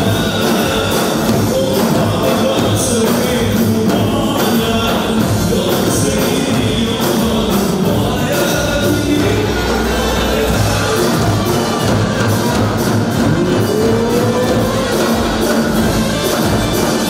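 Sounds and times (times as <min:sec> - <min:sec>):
loud music with singing: 0:00.0 - 0:17.0.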